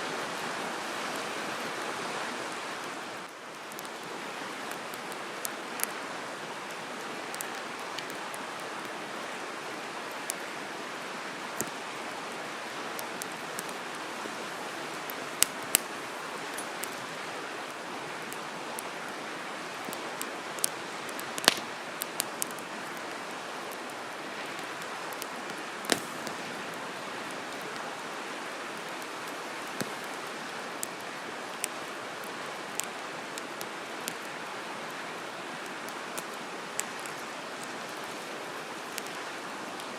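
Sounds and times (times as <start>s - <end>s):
steady rushing hiss: 2.6s - 39.9s
campfire crackling and popping: 3.2s - 39.9s.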